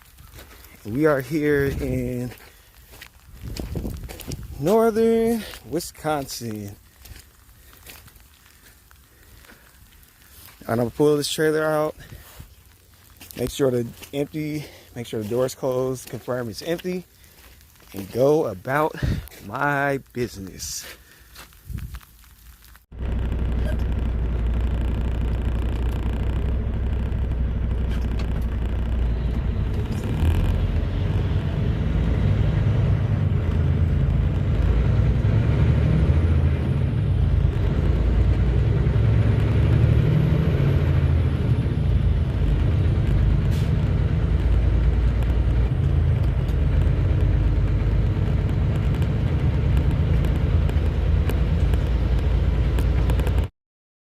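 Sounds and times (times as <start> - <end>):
truck engine rumbling: 0.0 - 20.9, 21.6 - 53.5.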